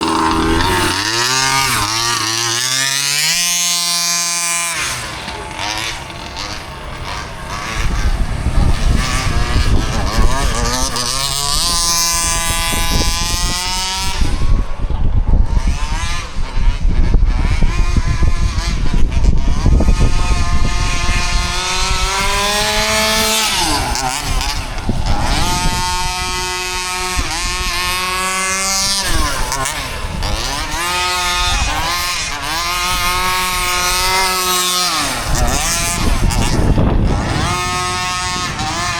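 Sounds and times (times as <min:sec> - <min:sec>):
small two-stroke engine revving: 0:00.0 - 0:38.9.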